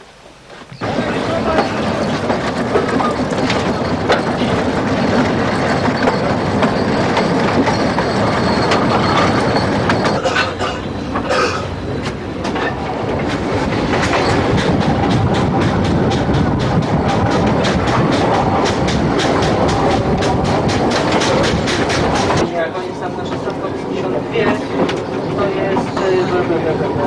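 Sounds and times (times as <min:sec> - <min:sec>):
train wagons rumbling: 0:00.3 - 0:27.0.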